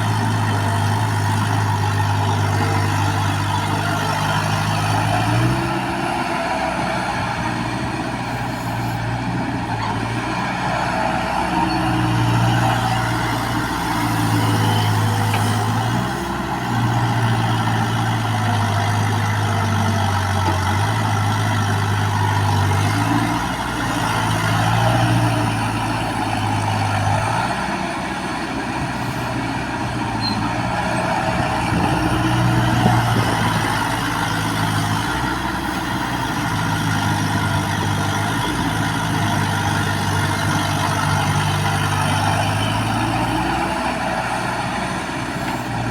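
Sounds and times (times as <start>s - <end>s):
backhoe diesel engine under load: 0.0s - 45.9s.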